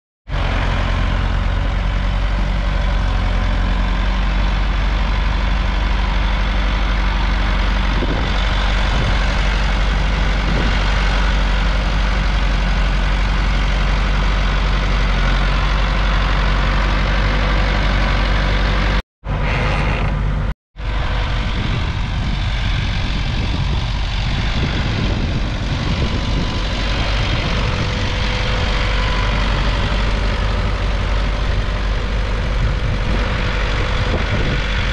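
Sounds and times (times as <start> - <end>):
tractor diesel engine under load: 0.3 - 34.9.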